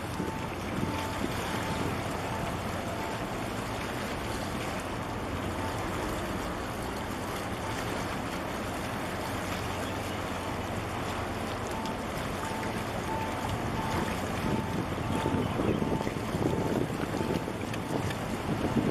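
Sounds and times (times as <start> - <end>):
low ship rumble: 0.0 - 18.9
water rushing: 0.0 - 18.9.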